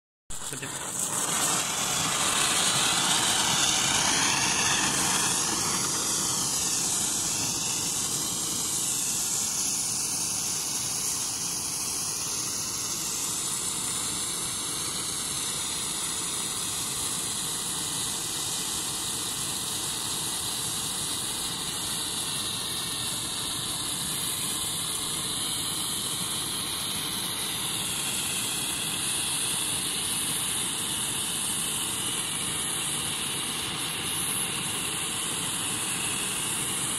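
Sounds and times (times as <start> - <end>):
flare hissing: 0.3 - 36.9.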